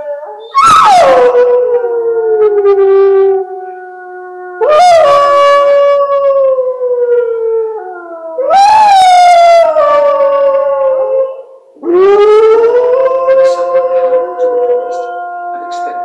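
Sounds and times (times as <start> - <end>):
dog howling: 0.0 - 16.0
lower dog howl: 0.0 - 16.0.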